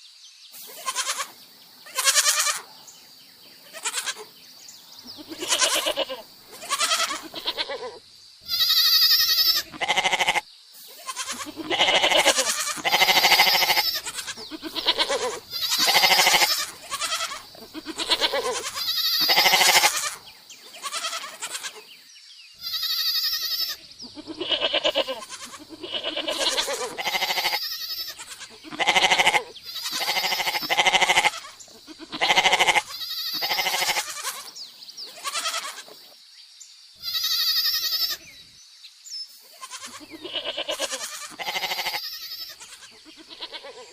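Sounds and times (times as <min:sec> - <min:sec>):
goats bleating: 0:00.6 - 0:02.6, 0:03.6 - 0:04.3, 0:05.2 - 0:21.8, 0:22.6 - 0:34.5, 0:35.1 - 0:36.0, 0:37.0 - 0:38.2, 0:39.5 - 0:43.9.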